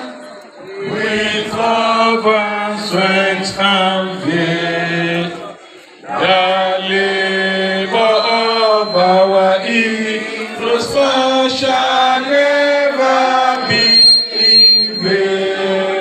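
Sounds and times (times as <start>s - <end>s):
crowd singing an anthem: 0.0s - 16.0s.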